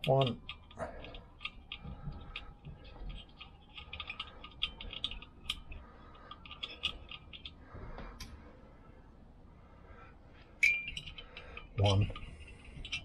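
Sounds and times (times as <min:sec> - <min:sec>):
light metallic clicks and rattles: 0:00.0 - 0:08.4, 0:10.6 - 0:13.0.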